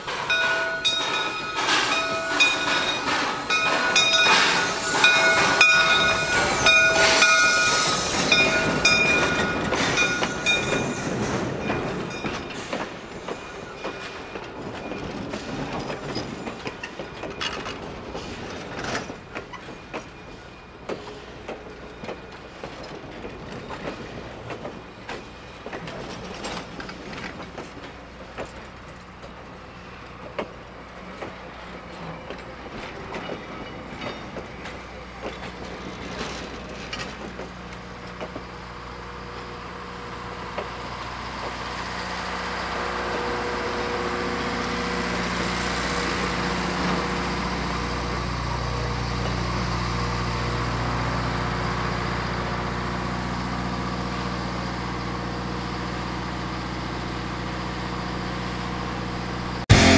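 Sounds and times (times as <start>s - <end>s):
train wheels clicking over rail joints: 0.0s - 59.9s.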